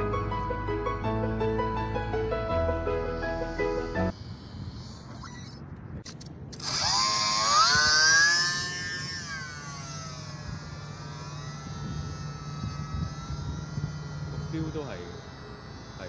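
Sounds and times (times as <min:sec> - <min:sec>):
rc plane motor whine: 0:00.0 - 0:16.0.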